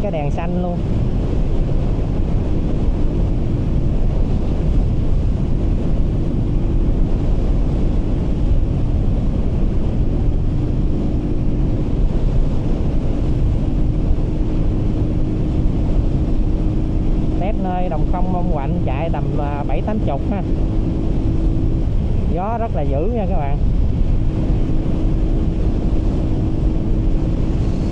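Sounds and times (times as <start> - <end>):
faint engine hum: 0.0 - 27.9
wind buffeting microphone: 0.0 - 27.9.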